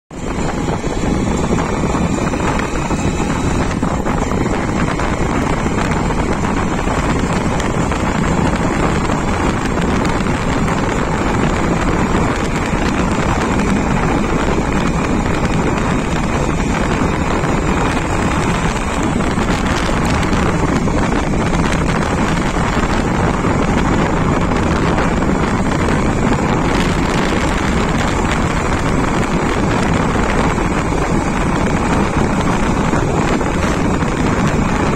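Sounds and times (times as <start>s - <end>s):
low rumble: 0.1s - 34.9s
wind buffeting microphone: 0.1s - 34.9s.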